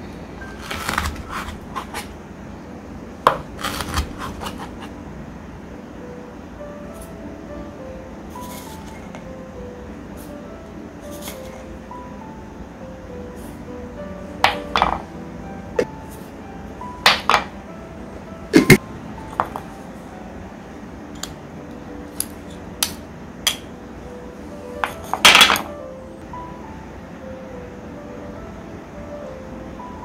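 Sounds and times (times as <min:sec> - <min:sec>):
soft background music: 0:00.0 - 0:30.0.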